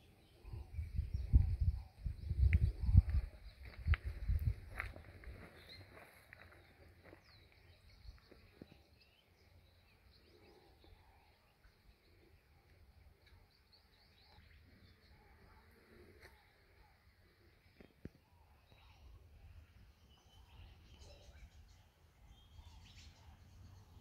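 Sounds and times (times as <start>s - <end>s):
distant birds chirping: 0.0s - 24.0s.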